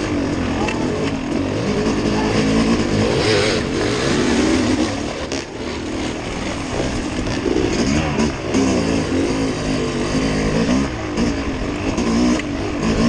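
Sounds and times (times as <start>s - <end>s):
steady rushing noise: 0.0s - 13.0s
vehicle engine running: 0.0s - 13.0s.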